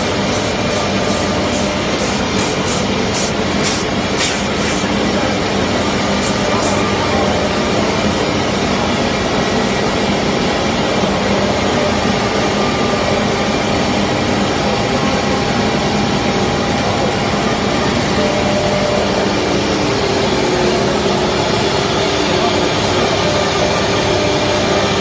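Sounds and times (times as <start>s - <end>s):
cnc router running: 0.0s - 25.0s.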